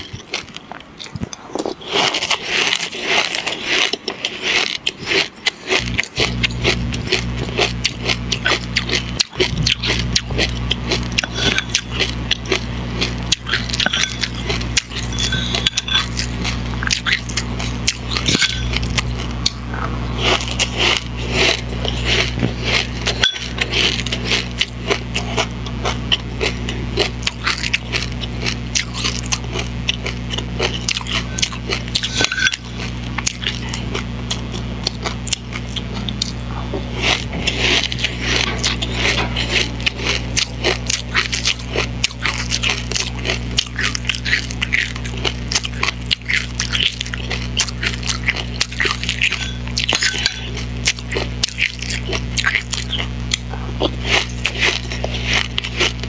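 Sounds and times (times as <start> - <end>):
crunching and chewing seeds: 0.0 - 56.0
low electrical hum: 0.0 - 56.0.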